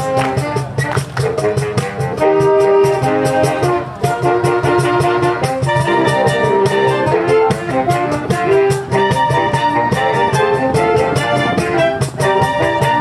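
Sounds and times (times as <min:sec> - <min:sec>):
saxophone chords: 0:00.0 - 0:13.0
steady percussion beat: 0:00.0 - 0:13.0.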